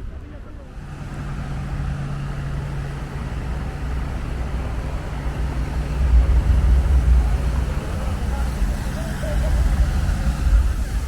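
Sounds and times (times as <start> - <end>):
vehicle engine rumble: 0.0 - 11.0
street traffic noise: 0.1 - 11.0.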